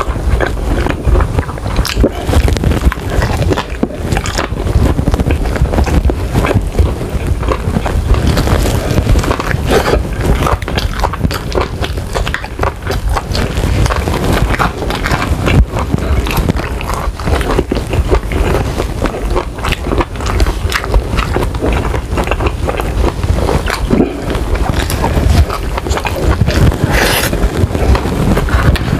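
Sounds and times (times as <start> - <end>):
wet chewing and smacking: 0.0 - 28.9.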